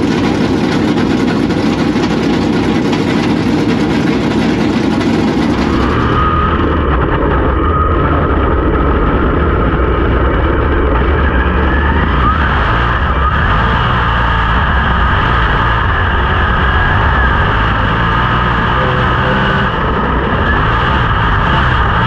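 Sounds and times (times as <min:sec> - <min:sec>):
engine whine: 0:00.0 - 0:22.0
race car engines droning: 0:00.0 - 0:22.0.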